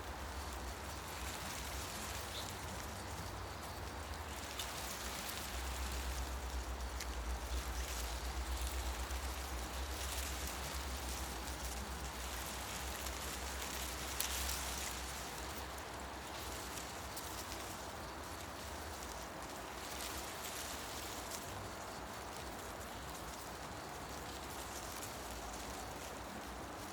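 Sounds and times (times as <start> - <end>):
wind rustling leaves: 0.0 - 26.9
faint light ticks: 0.3 - 26.2.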